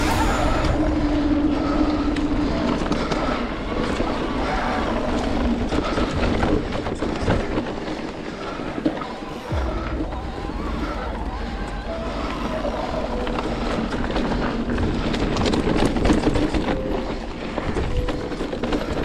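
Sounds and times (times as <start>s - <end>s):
bike rattling over rough ground: 0.0s - 19.0s.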